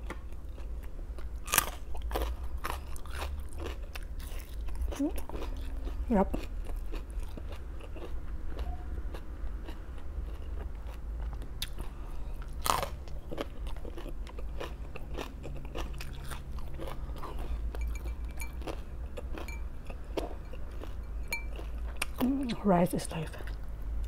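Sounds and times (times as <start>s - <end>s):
person crunching raw vegetables: 0.0s - 22.5s
steady low hum: 0.0s - 24.0s.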